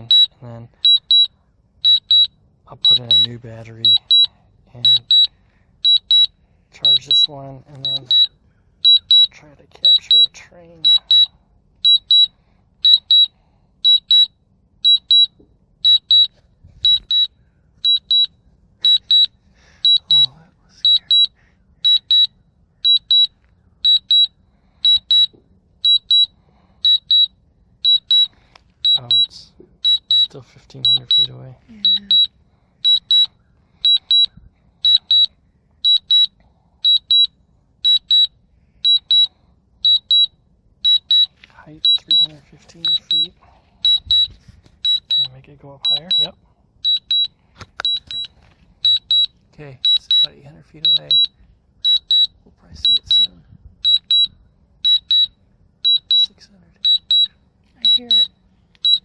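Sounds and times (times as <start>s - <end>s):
drone controller double beeps: 0.0s - 1.3s, 1.9s - 5.3s, 5.9s - 10.3s, 10.9s - 11.3s, 11.9s - 13.3s, 14.9s - 17.3s, 17.9s - 19.3s, 19.9s - 24.3s, 24.9s - 28.3s, 28.9s - 35.3s, 35.9s - 36.3s, 36.9s - 37.3s, 37.9s - 38.3s, 38.9s - 39.3s, 40.9s - 44.3s, 44.9s - 45.3s, 45.9s - 57.3s, 57.9s - 59.0s.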